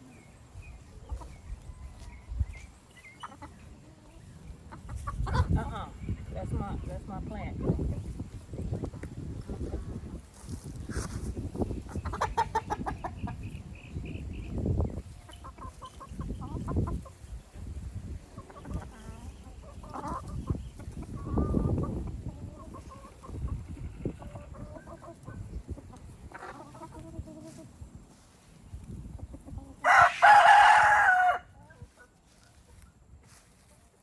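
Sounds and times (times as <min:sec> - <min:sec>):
chickens clucking and squawking: 0:00.0 - 0:34.0.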